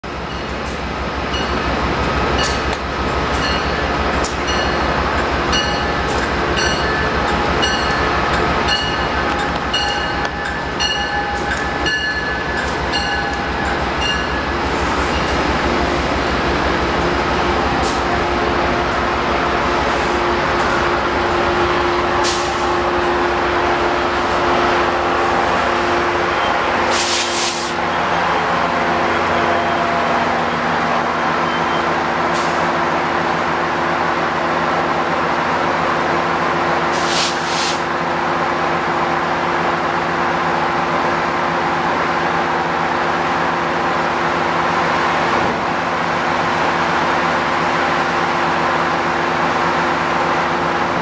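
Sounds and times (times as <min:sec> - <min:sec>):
locomotive hum: 0:00.0 - 0:51.0
train coaches rumbling over rails: 0:00.0 - 0:51.0.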